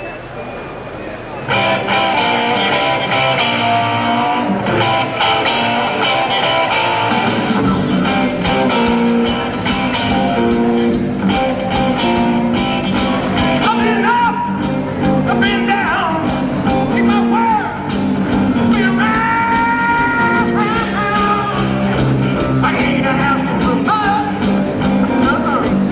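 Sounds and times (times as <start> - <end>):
keyboards: 0.0 - 25.9
bass guitar: 1.5 - 25.9
electric guitar: 1.5 - 25.9
drums: 1.6 - 25.9.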